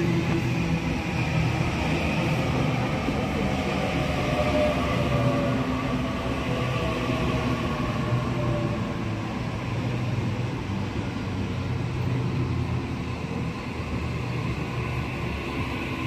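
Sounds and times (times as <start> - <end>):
electric train hum: 0.0 - 16.0
train wheels rumbling on rails: 0.0 - 16.0.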